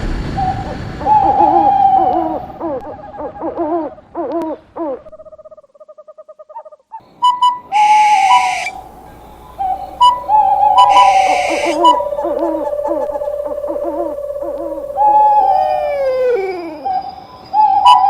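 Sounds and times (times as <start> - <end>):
owl hooting: 0.4 - 18.0.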